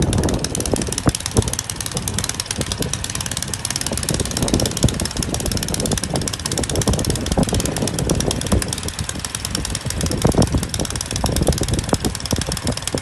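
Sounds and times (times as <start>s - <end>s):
snow blower engine running: 0.0s - 13.0s.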